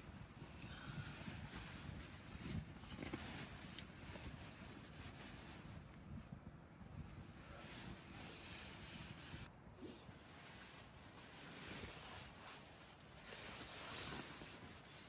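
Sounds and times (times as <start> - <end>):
faint rustling and rubbing: 0.0 - 15.0.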